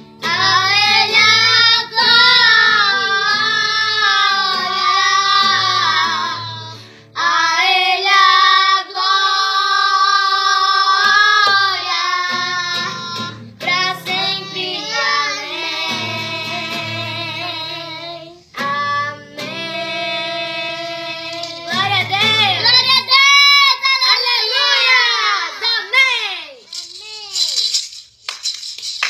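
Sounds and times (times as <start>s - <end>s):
guitar accompaniment: 0.0s - 9.4s, 10.6s - 26.0s
child singing: 0.2s - 26.2s.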